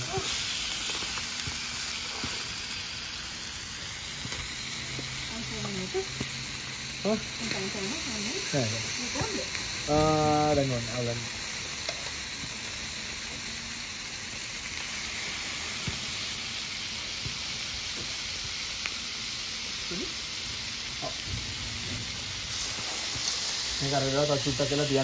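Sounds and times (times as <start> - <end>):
meat sizzling on a hotplate: 0.0 - 25.0.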